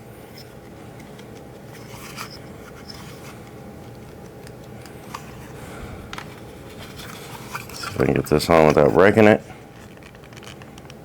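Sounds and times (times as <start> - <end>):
steady low hum: 0.0 - 11.0
plastic parts rubbing scrapes: 0.3 - 10.9.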